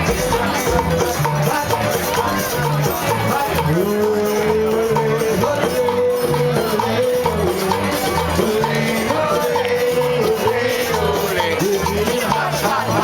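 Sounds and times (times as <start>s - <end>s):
latin dance music: 0.0s - 13.0s
repeating bass line: 0.0s - 13.0s
shaker percussion: 0.0s - 13.0s.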